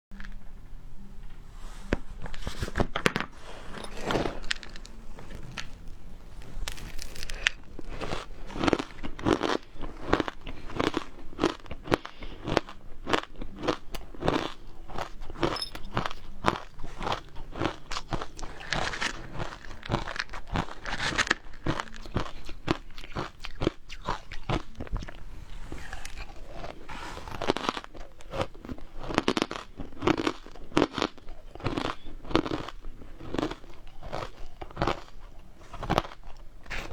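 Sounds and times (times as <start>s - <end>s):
ice being chewed with crunches: 3.5s - 36.9s.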